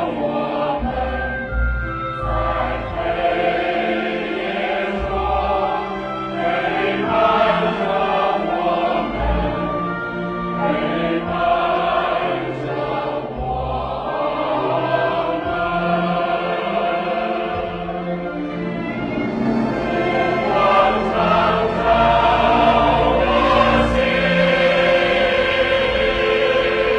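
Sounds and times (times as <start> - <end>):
choir singing slow song: 0.0 - 1.6, 2.2 - 26.9
instrumental accompaniment: 0.0 - 26.9.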